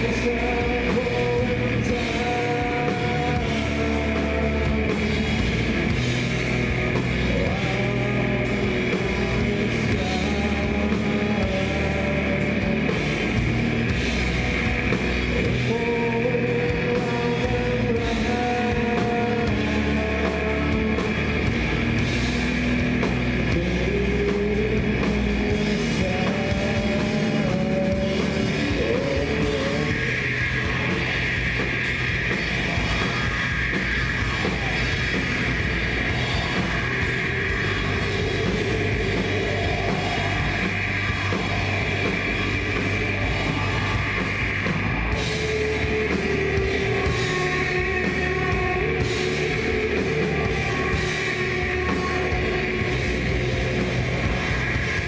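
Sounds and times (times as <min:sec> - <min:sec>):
live rock band playing: 0:00.0 - 0:55.0
melodic electric guitar line: 0:00.0 - 0:55.0.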